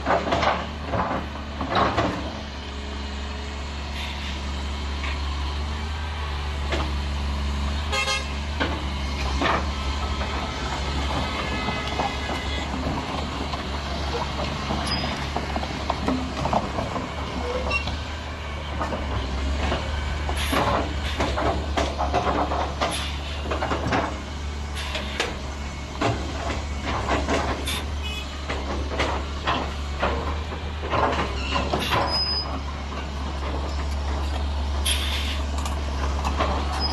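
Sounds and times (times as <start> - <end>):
sharp knocks and clatter: 0.0 - 2.4, 8.4 - 18.0, 18.6 - 36.9
excavator diesel engine running: 0.0 - 36.9.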